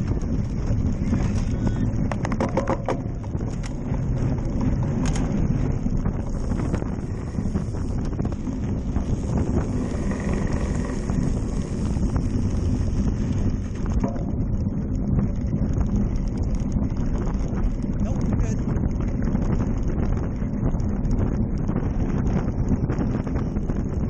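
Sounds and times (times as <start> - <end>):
bike knocks and rattles: 0.0 - 24.0
steady rumble: 0.0 - 24.0
wind buffeting microphone: 0.0 - 24.0.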